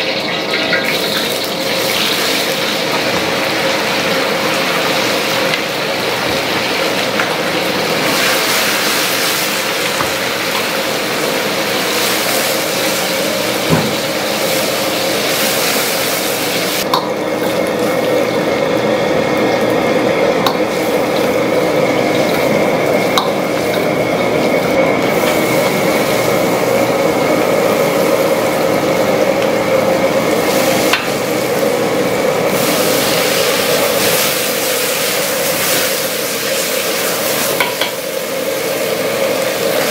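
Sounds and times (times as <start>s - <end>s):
meat sizzling in a wok: 0.0s - 39.9s.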